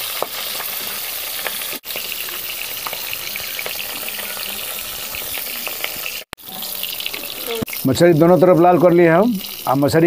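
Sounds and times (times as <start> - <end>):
fish sizzling in hot oil: 0.0 - 10.0
small crackles of frying: 0.0 - 10.0.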